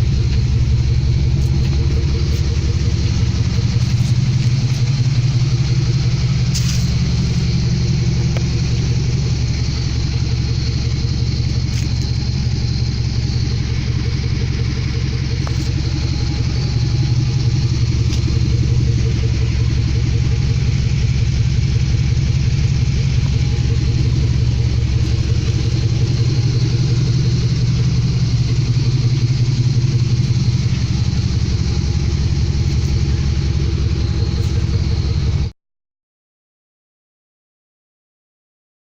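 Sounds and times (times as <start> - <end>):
pickup engine idling: 0.0 - 35.5.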